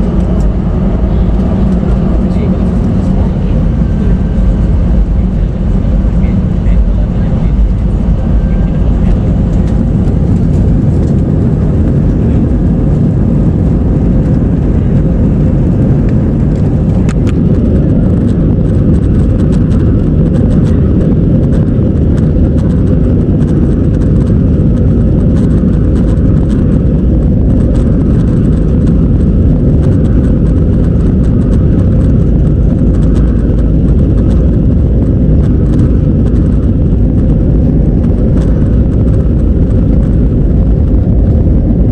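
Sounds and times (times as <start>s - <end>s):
airliner engine and airflow rumble: 0.0s - 41.9s
steady hum: 0.0s - 41.9s.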